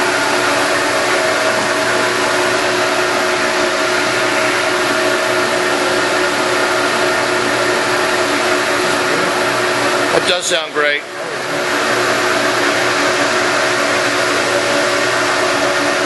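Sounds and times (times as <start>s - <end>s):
lathe running with steady whir: 0.0s - 16.0s.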